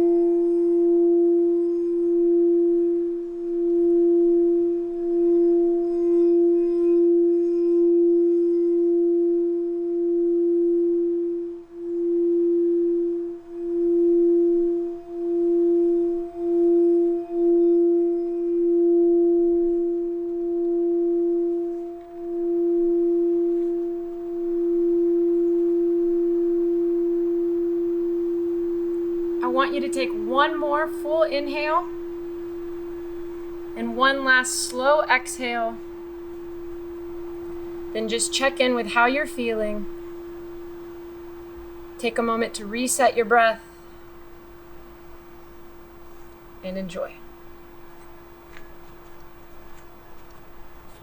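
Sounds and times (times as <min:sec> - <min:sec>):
singing bowl tone: 0:00.0 - 0:51.0.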